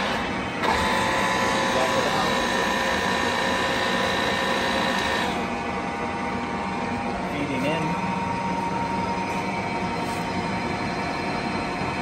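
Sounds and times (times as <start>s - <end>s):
lathe running: 0.0s - 12.0s
power feed whine: 0.0s - 12.0s.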